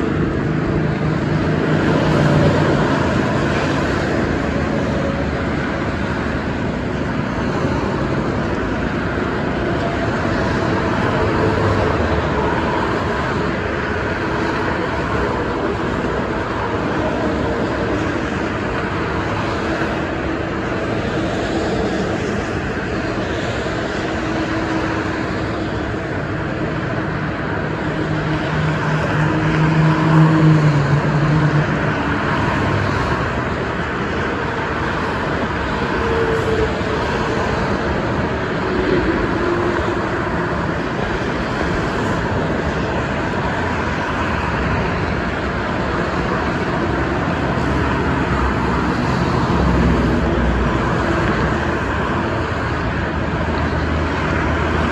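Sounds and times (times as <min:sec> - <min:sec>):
highway traffic noise: 0:00.0 - 0:54.9.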